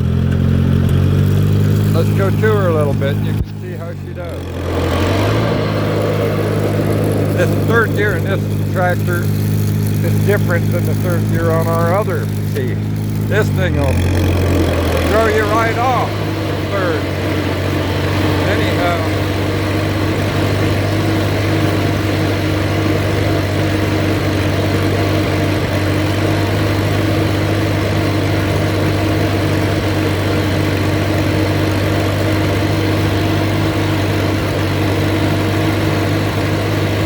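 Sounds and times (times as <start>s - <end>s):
tractor engine running under load: 0.0s - 37.0s.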